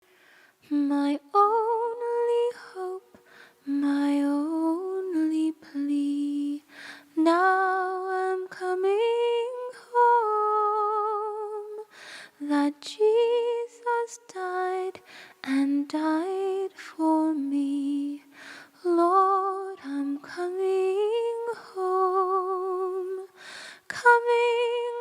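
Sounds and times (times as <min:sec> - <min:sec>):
woman singing a hymn: 0:00.6 - 0:25.0.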